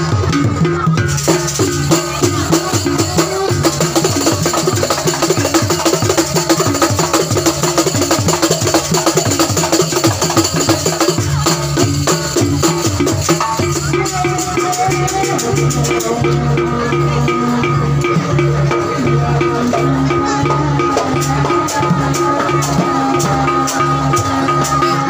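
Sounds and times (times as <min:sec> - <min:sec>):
drums and gong-chimes rhythm: 0:00.0 - 0:25.0.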